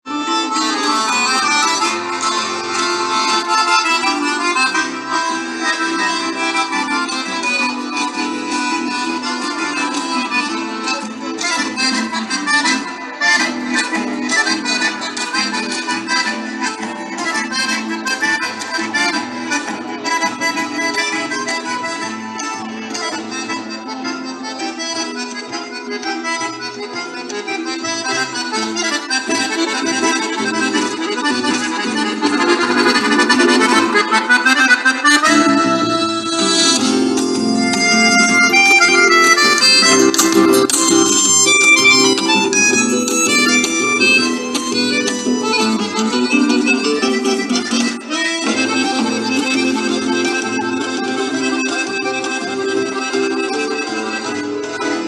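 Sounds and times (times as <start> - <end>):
accordion-led dance music: 0.0 - 55.0.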